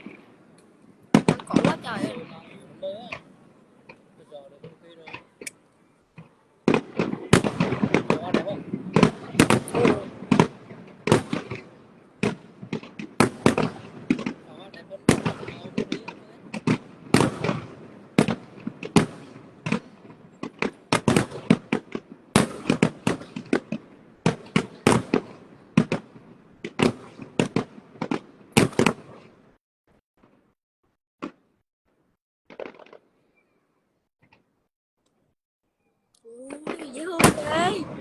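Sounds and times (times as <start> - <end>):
fireworks sharp bangs: 0.0 - 29.6, 32.5 - 33.5, 36.5 - 38.0.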